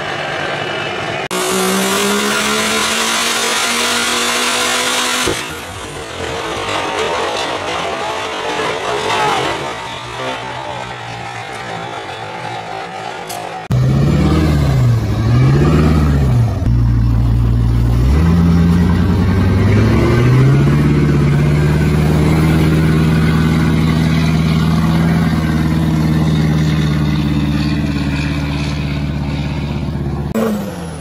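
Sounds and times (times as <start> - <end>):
diesel truck engine revving: 0.0 - 31.0.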